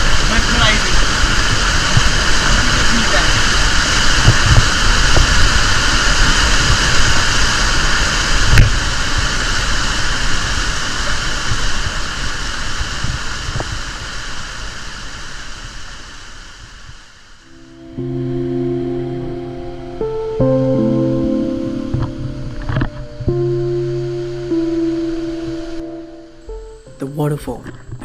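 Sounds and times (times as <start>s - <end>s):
waterfall rushing water: 0.0s - 27.3s.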